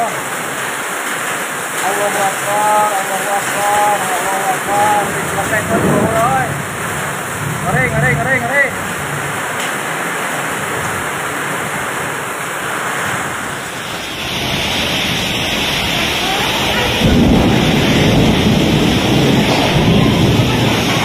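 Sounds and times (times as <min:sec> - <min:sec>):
storm wind and rain: 0:00.0 - 0:21.0
heavy low rumbling: 0:03.4 - 0:21.0.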